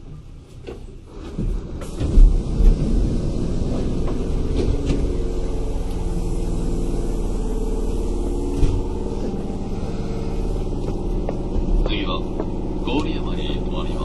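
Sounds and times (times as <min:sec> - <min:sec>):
running gear hum: 0:00.0 - 0:14.0
train wheels rumbling on rail: 0:00.1 - 0:14.0.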